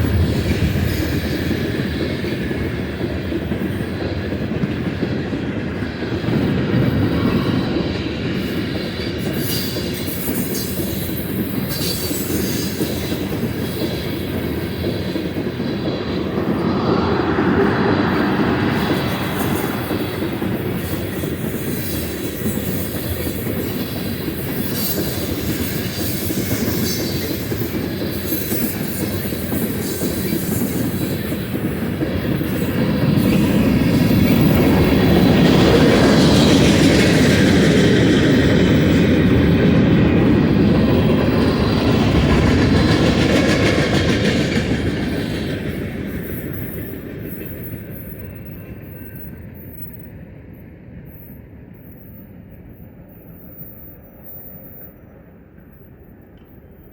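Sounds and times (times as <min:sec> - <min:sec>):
freight train wheels rumbling: 0:00.0 - 0:56.9.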